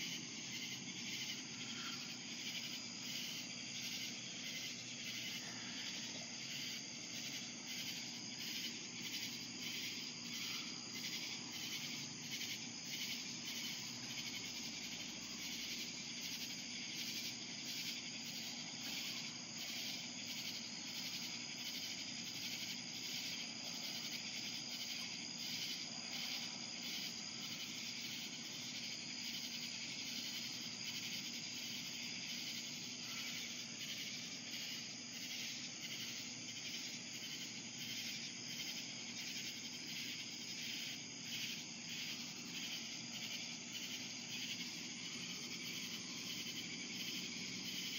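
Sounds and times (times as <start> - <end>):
night insects chirping: 0.0 - 47.9.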